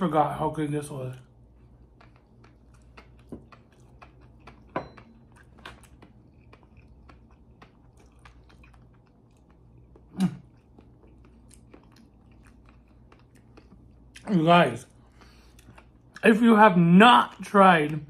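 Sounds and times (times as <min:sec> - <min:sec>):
man chewing with wet clicks: 0:01.0 - 0:16.5.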